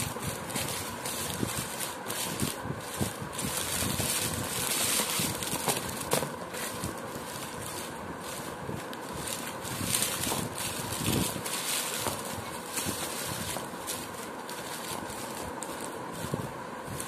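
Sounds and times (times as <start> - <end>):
sweets knocking together: 0.0 - 16.5
plastic sweet wrappers crinkling: 0.0 - 17.0.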